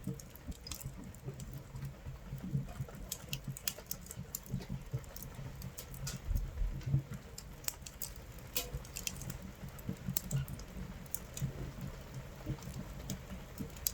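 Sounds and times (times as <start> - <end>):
rain pattering on a tent: 0.0 - 13.9
wood fire crackling: 0.0 - 13.9.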